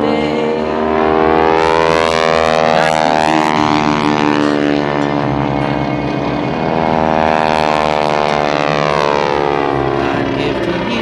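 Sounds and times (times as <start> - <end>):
biplane engine droning: 0.0 - 11.0.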